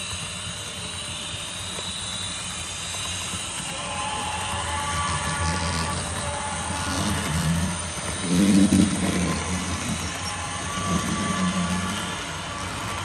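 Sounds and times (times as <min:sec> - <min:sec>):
model train humming: 0:00.0 - 0:13.0.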